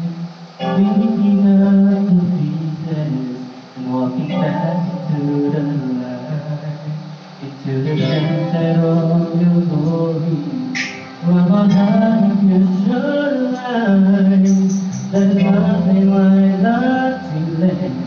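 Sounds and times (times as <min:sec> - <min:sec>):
man singing into microphone: 0:00.0 - 0:18.0.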